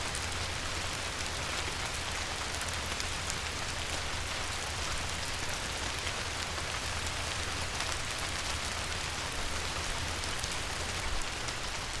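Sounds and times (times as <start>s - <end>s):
rain patter on water: 0.0s - 12.0s.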